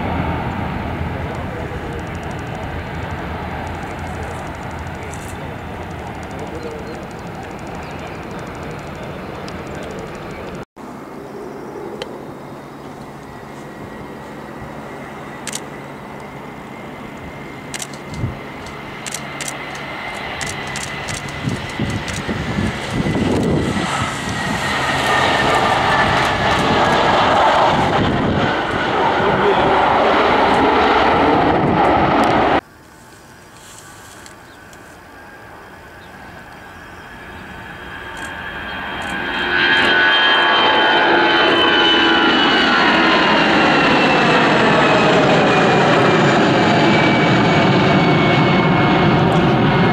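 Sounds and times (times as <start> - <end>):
jet engines rushing and whining: 0.0 - 49.9.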